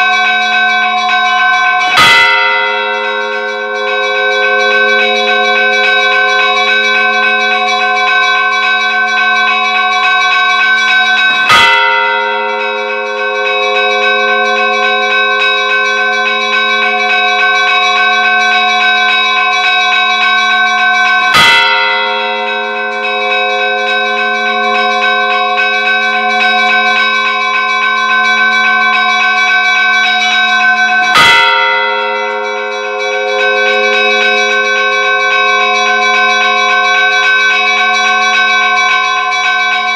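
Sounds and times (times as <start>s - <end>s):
church bells ringing: 0.0s - 39.9s
heavy bell stroke: 0.0s - 39.9s.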